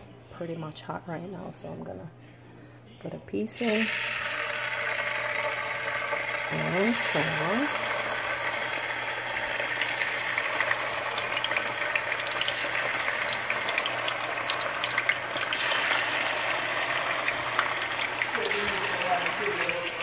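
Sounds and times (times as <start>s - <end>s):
chicken frying in oil: 3.6s - 20.0s
oil popping and crackling: 3.6s - 20.0s.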